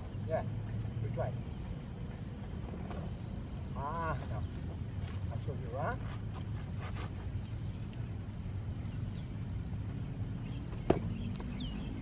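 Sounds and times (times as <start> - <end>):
faint bird chirp: 0.0 - 12.0
low outdoor rumble: 0.0 - 12.0.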